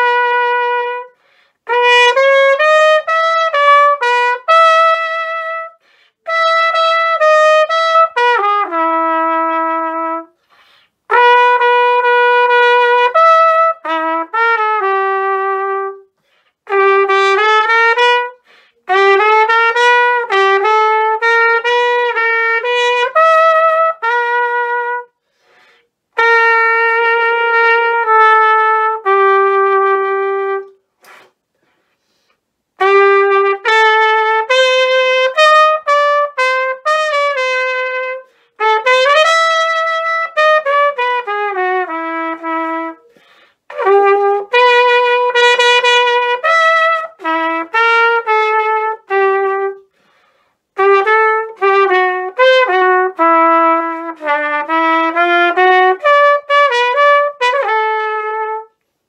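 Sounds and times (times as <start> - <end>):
solo trumpet melody: 0.0 - 31.4, 32.0 - 59.0.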